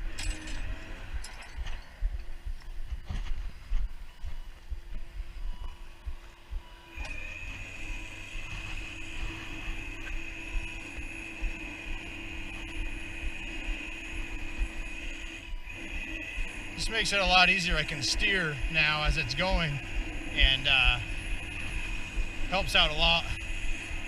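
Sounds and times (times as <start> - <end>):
winch whining: 4.2 - 24.0.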